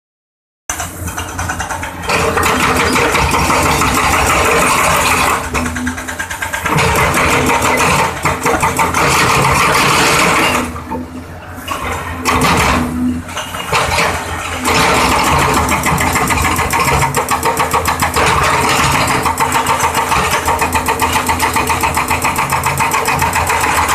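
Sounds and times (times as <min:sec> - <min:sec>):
hydraulic breaker hammering concrete: 0:00.7 - 0:11.0, 0:11.8 - 0:23.9
diesel engine running: 0:00.7 - 0:23.9.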